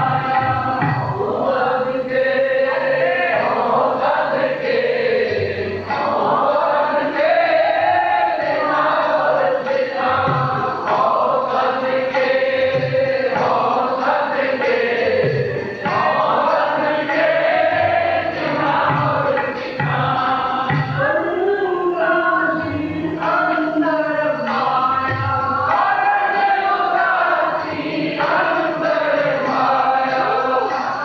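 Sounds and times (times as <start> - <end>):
men singing a hymn: 0.0 - 21.1, 22.0 - 31.0
harmonium: 0.0 - 31.0
tabla drums: 0.0 - 31.0.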